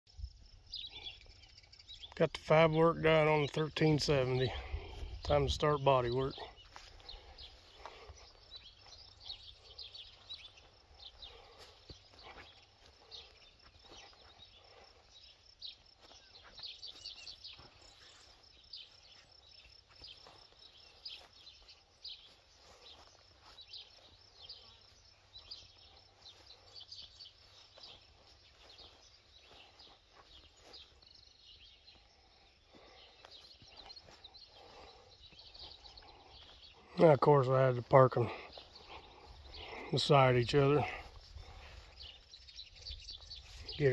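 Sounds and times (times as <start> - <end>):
small birds chirping: 0.1 - 43.9.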